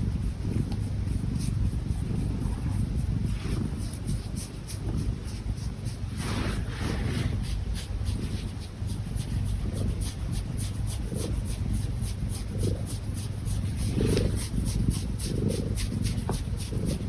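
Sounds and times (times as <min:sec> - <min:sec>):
cat snoring faintly: 0:00.0 - 0:17.0
hands rubbing fur: 0:00.0 - 0:17.0.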